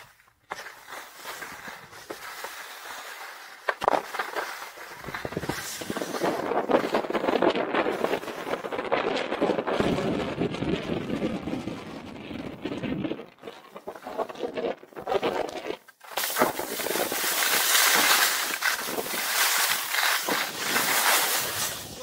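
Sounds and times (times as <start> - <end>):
skis sliding on snow: 0.0 - 10.0, 13.4 - 22.0.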